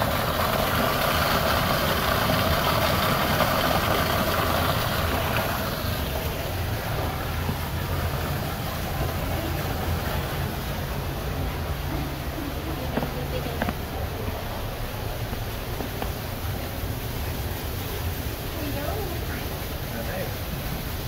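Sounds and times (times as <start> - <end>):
water falling onto rocks: 0.0 - 11.8, 12.8 - 21.0.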